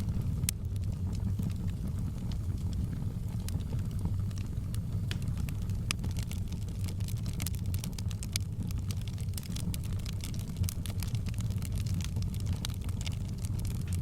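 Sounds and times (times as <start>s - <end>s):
burning logs crackling and popping: 0.0s - 14.0s
low rumble of flames: 0.0s - 14.0s.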